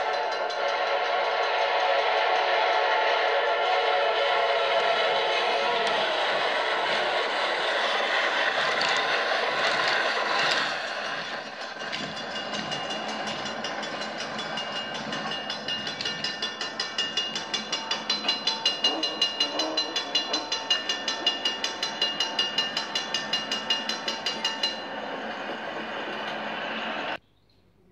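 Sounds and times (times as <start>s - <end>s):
model train running on track: 0.0s - 27.2s.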